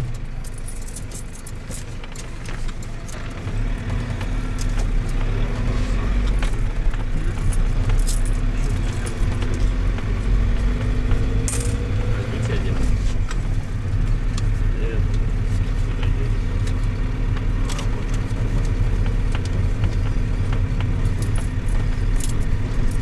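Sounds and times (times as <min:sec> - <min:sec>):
bus engine running: 0:00.0 - 0:23.0
road noise: 0:00.0 - 0:23.0.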